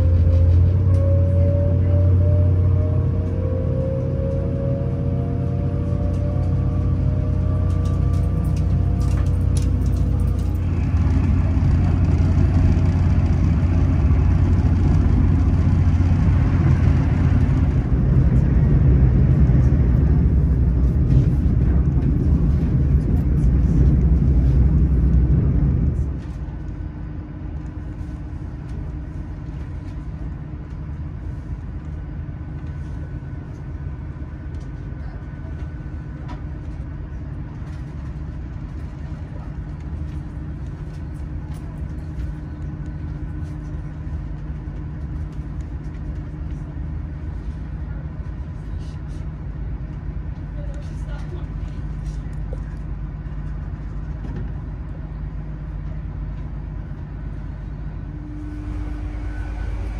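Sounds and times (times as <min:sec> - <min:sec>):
train hum with faint whine: 0:00.0 - 0:59.9
train rumbling at speed: 0:00.0 - 0:59.9.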